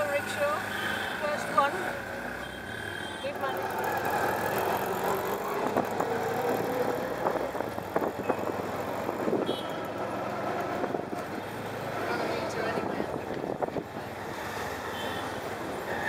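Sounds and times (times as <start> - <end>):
auto rickshaw engine: 0.0 - 16.0
traffic engines: 0.0 - 16.0.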